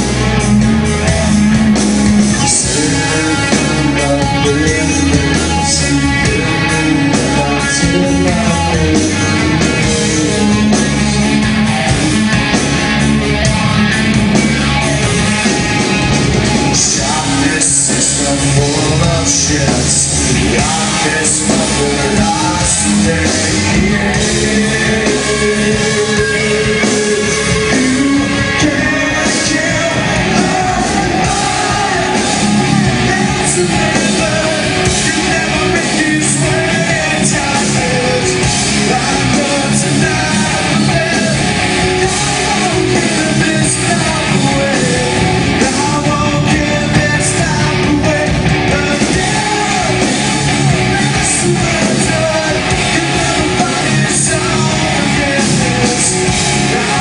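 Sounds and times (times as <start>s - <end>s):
heavy rock band playing live: 0.0s - 57.0s
man singing into microphone: 2.4s - 11.1s, 16.7s - 57.0s.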